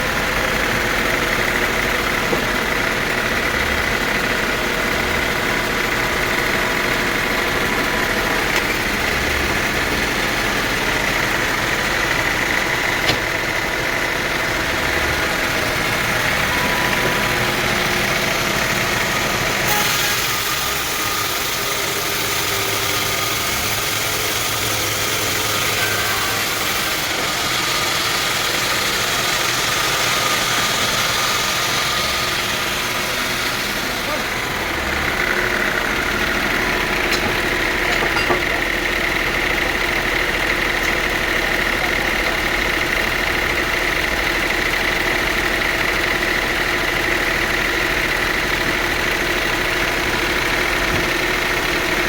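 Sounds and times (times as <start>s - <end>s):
sawmill machinery droning: 0.0s - 52.0s.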